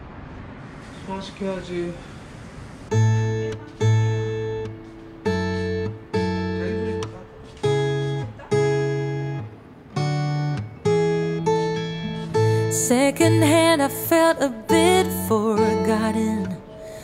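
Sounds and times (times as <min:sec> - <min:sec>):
acoustic guitar strumming chords: 0:02.9 - 0:17.0.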